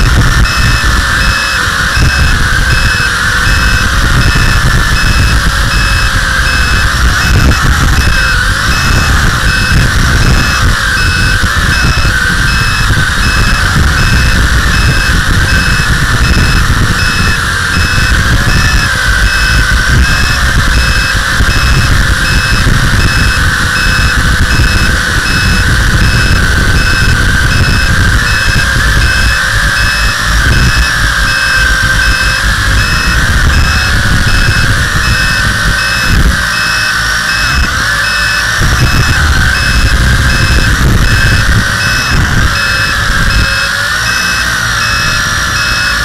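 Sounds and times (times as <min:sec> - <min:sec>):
drone propellers whining: 0:00.0 - 0:46.0
wind rumble on microphone: 0:00.0 - 0:46.0.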